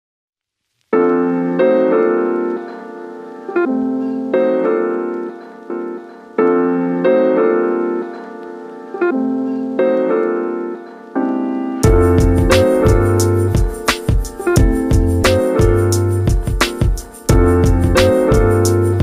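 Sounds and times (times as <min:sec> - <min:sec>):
piano chords: 0:00.9 - 0:19.0.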